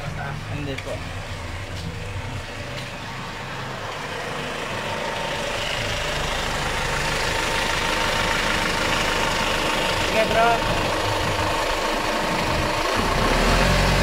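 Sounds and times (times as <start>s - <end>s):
van engine idling: 0.0s - 14.0s.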